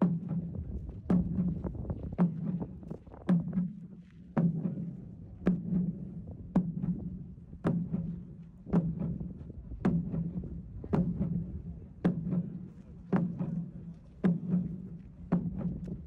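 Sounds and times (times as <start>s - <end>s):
large drum booming: 0.0s - 3.8s, 4.4s - 16.0s.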